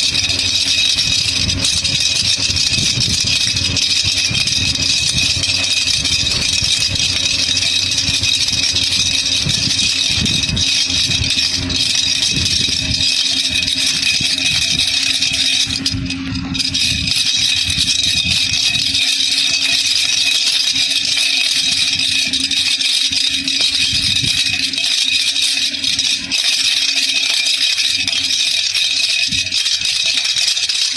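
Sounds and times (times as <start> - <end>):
baby rattle shaken: 0.0 - 30.9.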